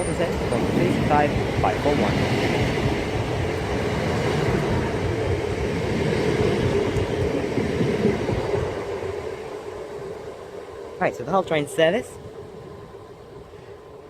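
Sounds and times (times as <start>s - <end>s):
diesel train passing: 0.0s - 14.0s.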